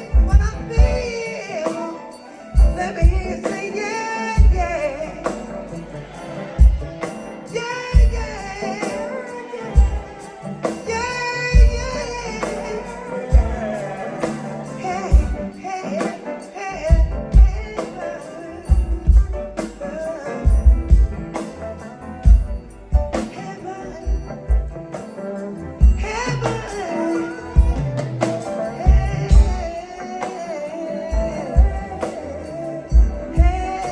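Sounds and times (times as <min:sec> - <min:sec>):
live soul band playing: 0:00.0 - 0:33.9
person singing: 0:00.0 - 0:33.9
tambourine: 0:00.0 - 0:33.9.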